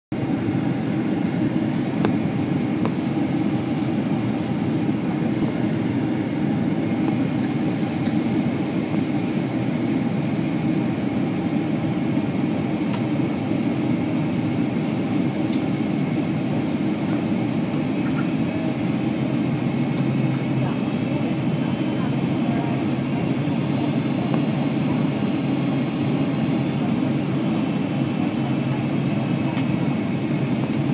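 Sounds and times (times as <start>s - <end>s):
airplane cabin airflow and engines: 0.1s - 30.9s.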